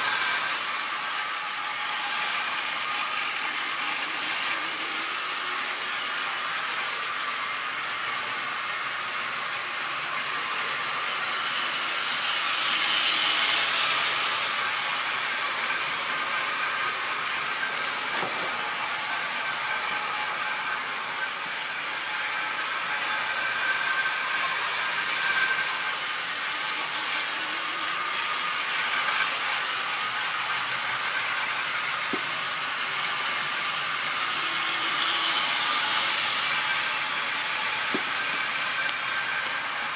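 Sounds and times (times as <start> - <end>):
model train motor whirring: 0.0 - 39.9.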